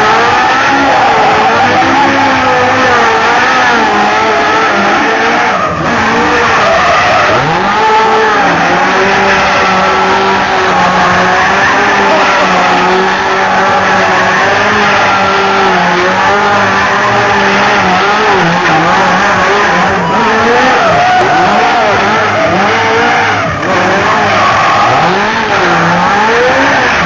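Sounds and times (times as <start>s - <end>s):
car engine running: 0.0s - 27.0s
car tyres squealing: 0.0s - 27.0s.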